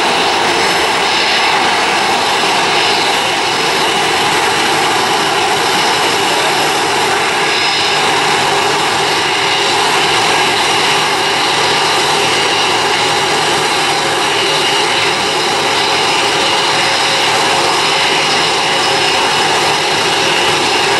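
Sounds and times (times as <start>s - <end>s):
jet engines roaring: 0.0s - 20.9s.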